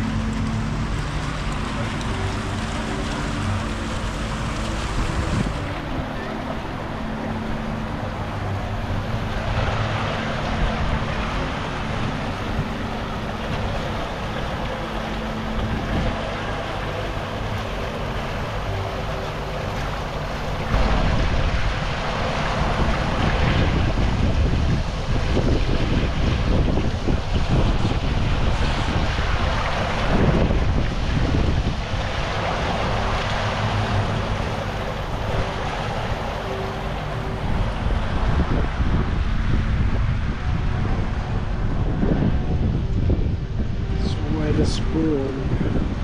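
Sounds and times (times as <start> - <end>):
fountain water splashing: 0.0 - 46.0
wind buffeting microphone: 0.0 - 46.0.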